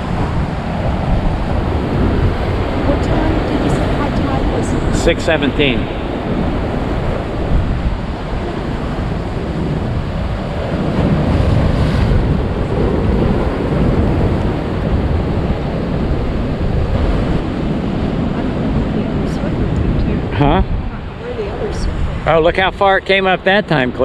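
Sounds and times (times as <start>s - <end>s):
ocean waves breaking: 0.0s - 24.0s
wind buffeting microphone: 0.0s - 24.0s.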